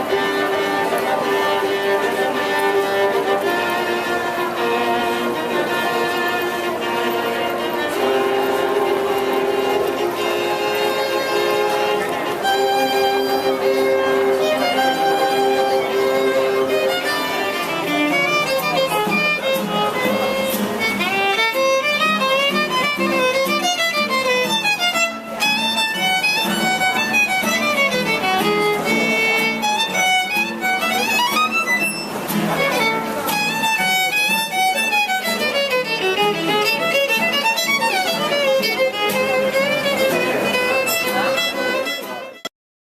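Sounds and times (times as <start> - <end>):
fast violin music: 0.0 - 42.5.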